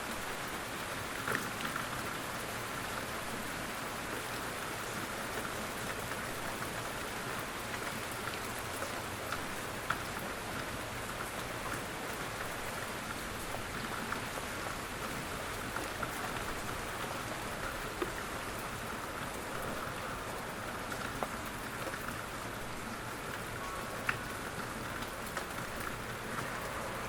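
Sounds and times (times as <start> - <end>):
light rain pattering: 0.0 - 27.0.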